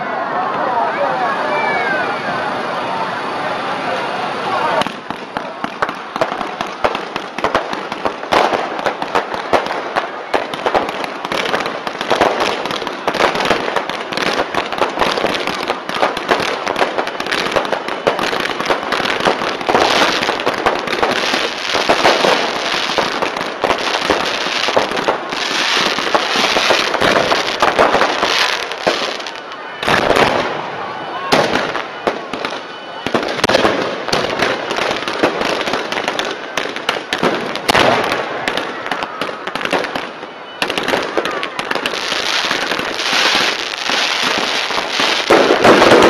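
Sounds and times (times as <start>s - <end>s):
fireworks bangs and crackles: 0.3s - 46.0s.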